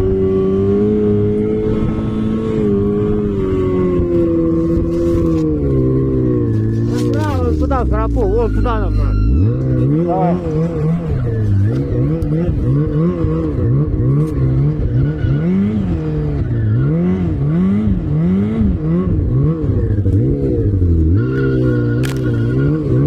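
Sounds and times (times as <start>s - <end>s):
off-road vehicle engine under load: 0.0s - 23.0s.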